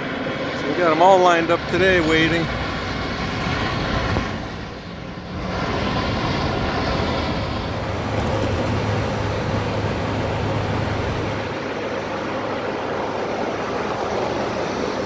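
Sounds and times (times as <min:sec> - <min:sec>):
low engine hum: 0:00.0 - 0:15.0
traffic rumble: 0:00.0 - 0:15.0.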